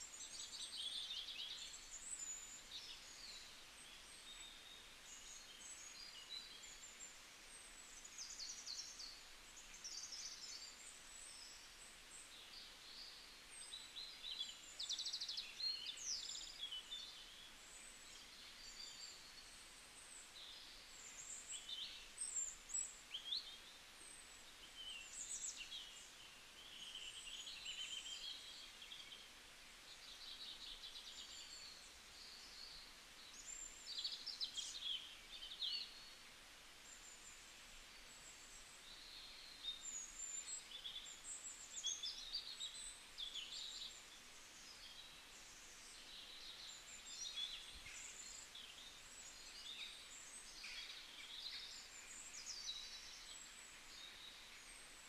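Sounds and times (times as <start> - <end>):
low steady hiss: 0.0 - 55.0
small birds chirping: 0.0 - 55.0.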